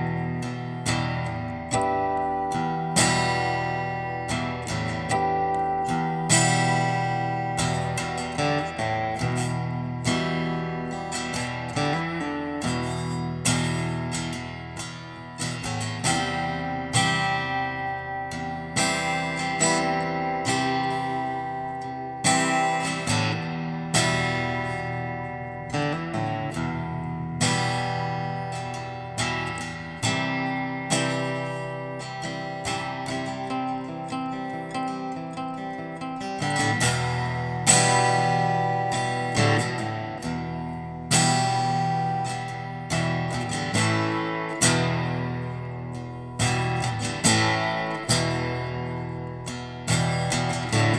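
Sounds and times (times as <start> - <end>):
acoustic guitar music: 0.0 - 50.9.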